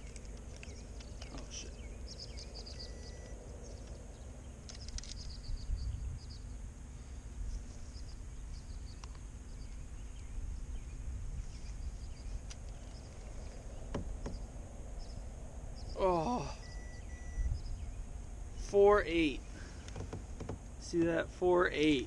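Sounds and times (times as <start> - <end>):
wind rumble on microphone: 0.0 - 16.0, 16.8 - 18.6
small birds chirping: 0.0 - 22.0.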